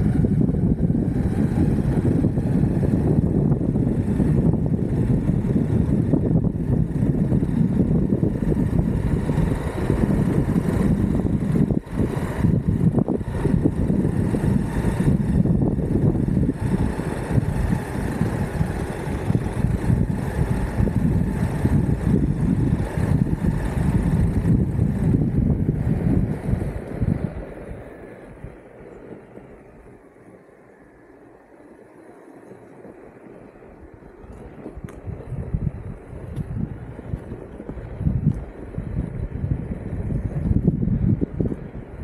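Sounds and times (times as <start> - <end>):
wind buffeting microphone: 0.0 - 30.2, 31.6 - 42.0
wheels rolling on road: 0.0 - 42.0.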